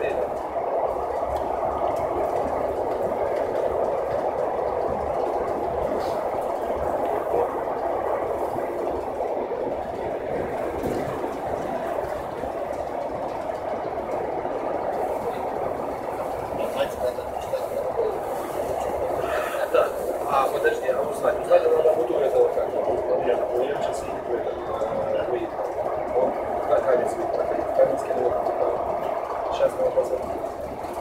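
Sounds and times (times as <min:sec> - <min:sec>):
train wheels rushing on rails: 0:00.0 - 0:31.0.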